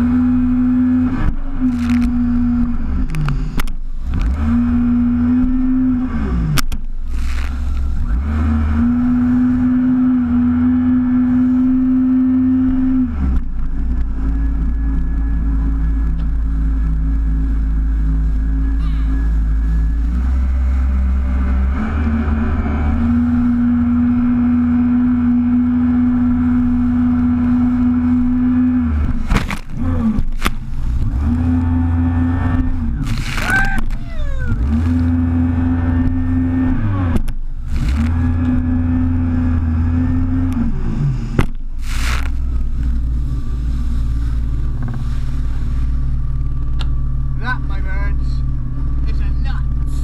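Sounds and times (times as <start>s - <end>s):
water splashing against hull: 0.0s - 47.4s
jet ski engine running hard: 0.0s - 50.0s.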